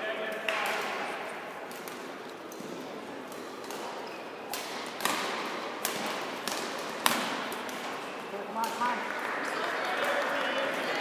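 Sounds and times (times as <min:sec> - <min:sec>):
rackets hitting shuttlecock: 0:00.3 - 0:10.7.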